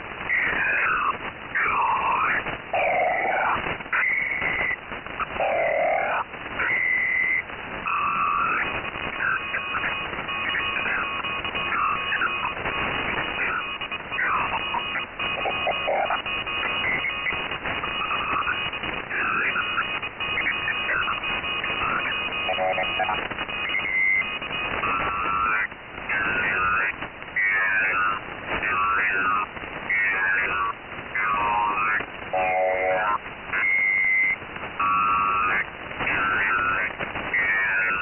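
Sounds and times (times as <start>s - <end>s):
radio static hiss: 0.0s - 38.0s
gliding warbling radio tones: 0.3s - 38.0s.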